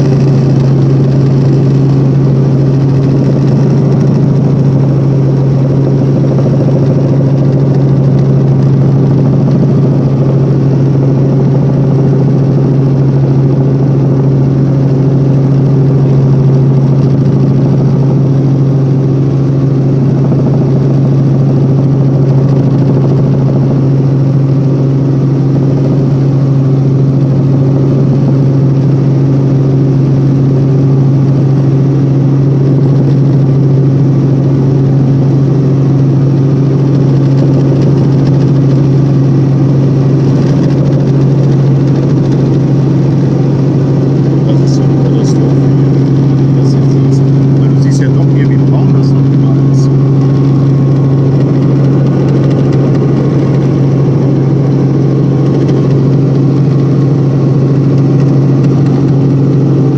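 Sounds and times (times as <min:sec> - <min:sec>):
helicopter cabin drone: 0:00.0 - 0:59.9.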